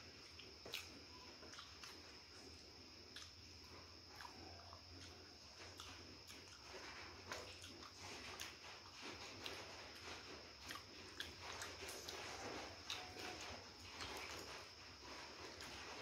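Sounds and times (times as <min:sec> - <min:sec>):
chewing and crunching: 0:00.0 - 0:16.0
faint hum: 0:00.0 - 0:16.0.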